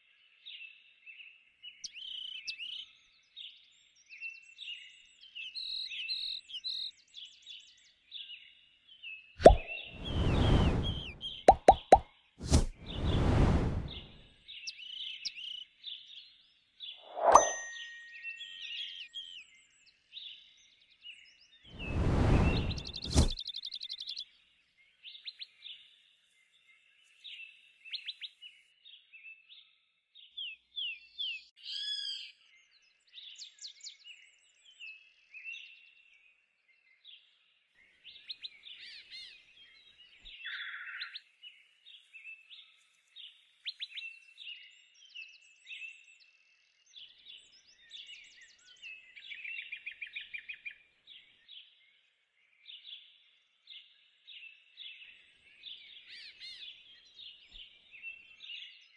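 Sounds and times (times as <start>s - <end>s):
small birds chirping and trilling: 0.0s - 11.8s, 12.5s - 58.9s.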